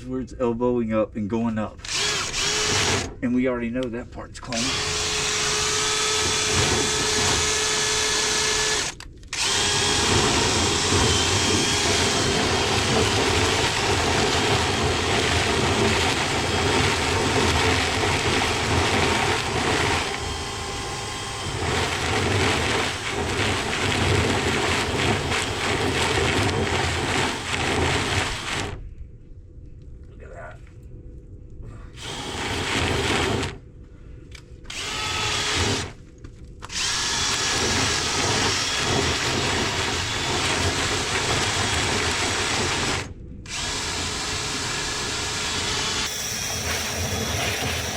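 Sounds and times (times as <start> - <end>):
power drill spinning brush rods: 1.8 - 3.1, 4.5 - 28.8, 32.0 - 33.6, 34.7 - 36.0, 36.6 - 47.9.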